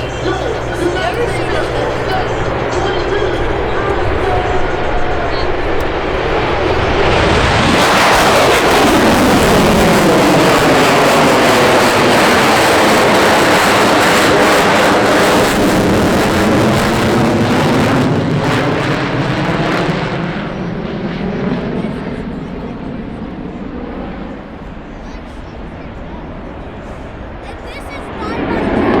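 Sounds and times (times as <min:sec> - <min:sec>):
airplane engine passing: 0:00.0 - 0:29.0.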